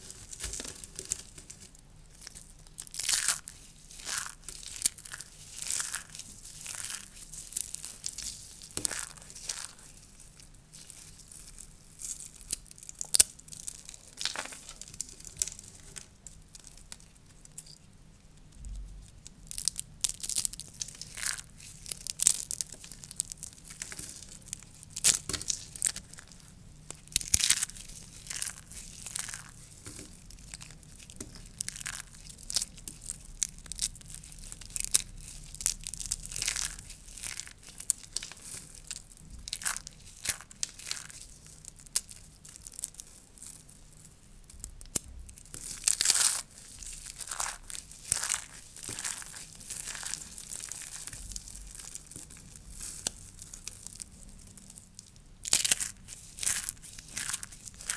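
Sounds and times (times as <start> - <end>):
soap curls crackling and crunching: 0.0 - 57.9.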